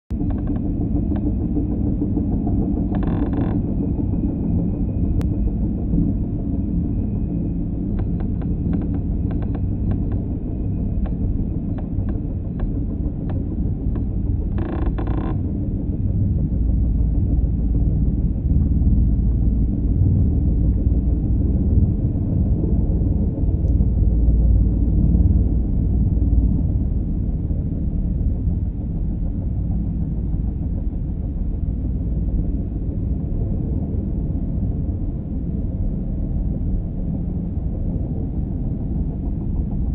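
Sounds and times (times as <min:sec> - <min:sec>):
helicopter hovering: 0:00.1 - 0:14.6, 0:15.3 - 0:39.9.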